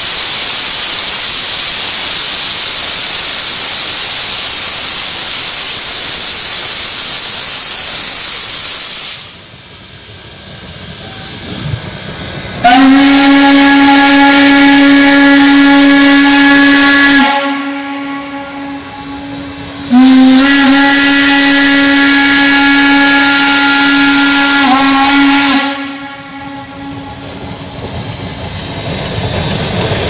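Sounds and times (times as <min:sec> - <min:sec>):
steam whistle blast: 0:00.0 - 0:09.5, 0:11.0 - 0:30.0
steam venting hiss: 0:00.0 - 0:30.0.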